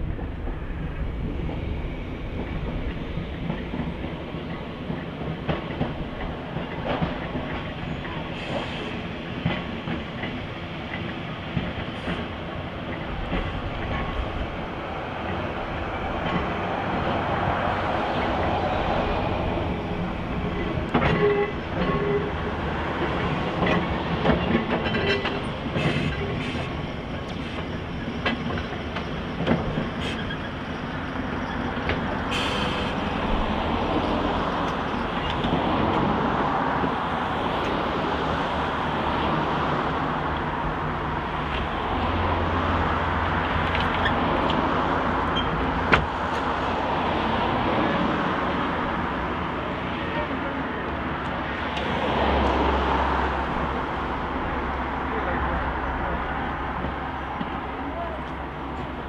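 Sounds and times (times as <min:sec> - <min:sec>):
tram wheels clicking on rails: 0:00.0 - 0:59.0.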